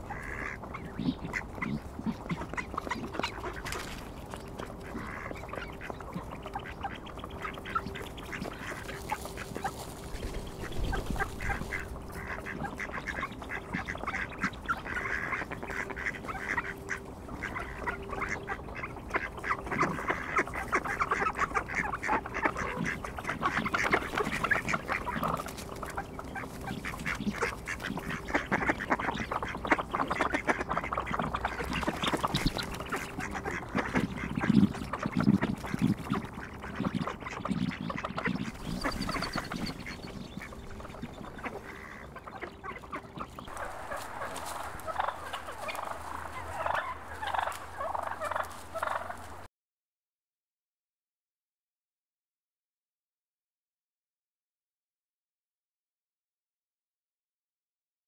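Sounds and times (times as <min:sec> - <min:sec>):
ducks quacking: 0:00.0 - 0:49.5.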